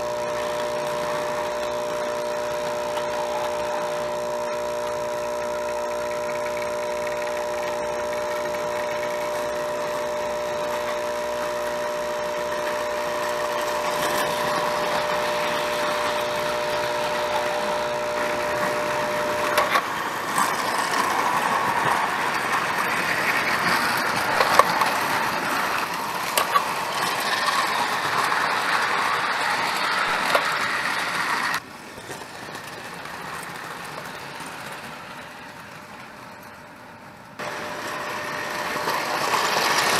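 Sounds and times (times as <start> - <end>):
toy train motor hum: 0.0 - 39.9
wheels clicking over rail joints: 0.0 - 39.9.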